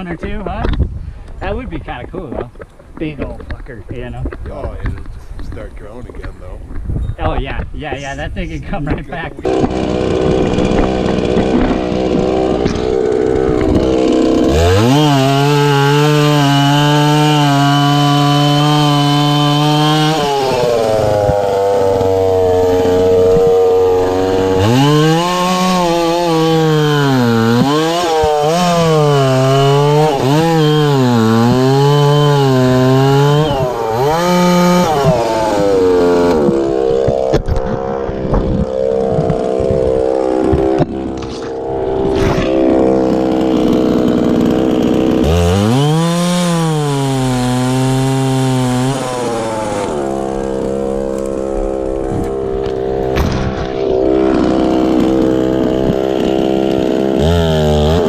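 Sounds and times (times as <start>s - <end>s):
chainsaw cutting wood: 8.9s - 58.0s.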